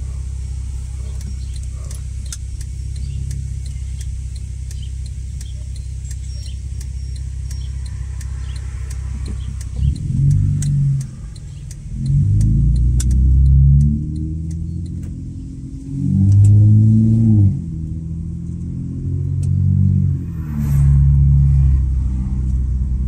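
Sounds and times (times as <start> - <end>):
light ticking: 0.0 - 20.0, 21.5 - 23.0
car exhaust droning: 0.0 - 23.0.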